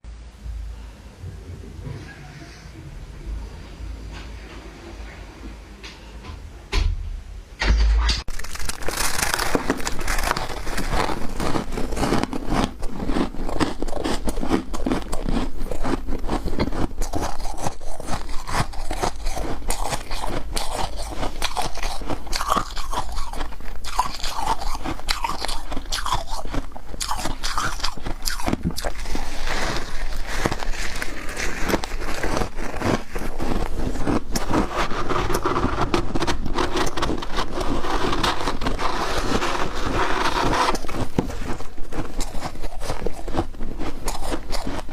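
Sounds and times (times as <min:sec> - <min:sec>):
chewing crunchy ice: 0:08.3 - 0:44.9.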